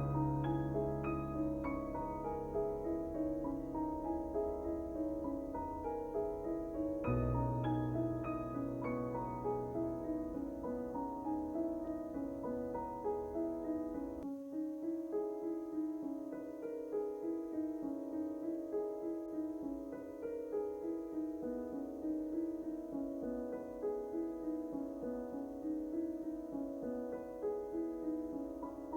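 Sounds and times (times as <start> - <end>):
gentle piano music: 0.0 - 28.9.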